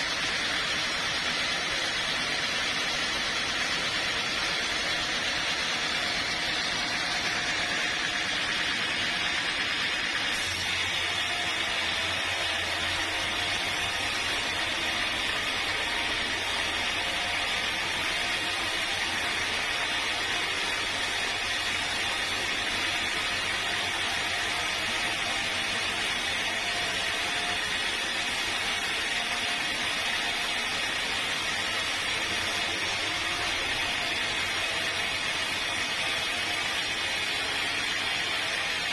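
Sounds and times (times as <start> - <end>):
sawmill machine running: 0.0 - 38.9.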